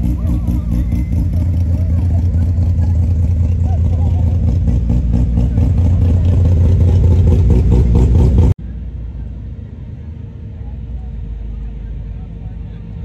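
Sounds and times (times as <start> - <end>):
car engine low pulsing rumble: 0.0 - 13.0
street background: 0.0 - 13.0.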